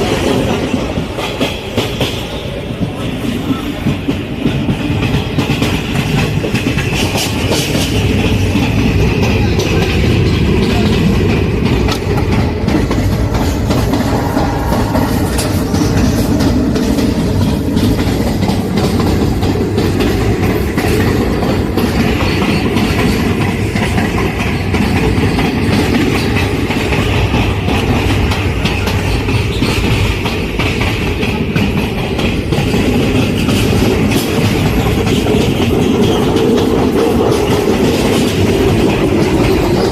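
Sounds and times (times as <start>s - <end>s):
train rumbling on rails: 0.0s - 39.9s
wheels clicking over track: 0.0s - 39.9s.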